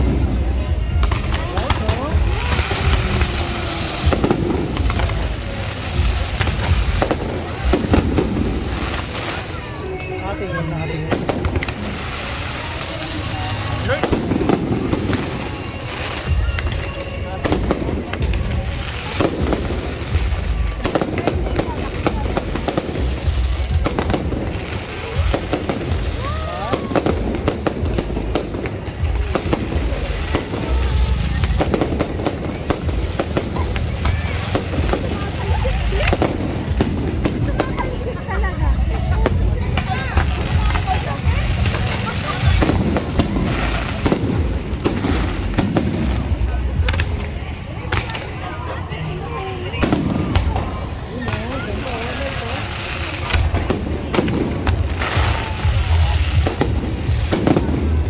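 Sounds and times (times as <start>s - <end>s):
hissing crackle: 0.0s - 9.9s, 11.1s - 48.3s
firework bangs: 0.0s - 58.0s.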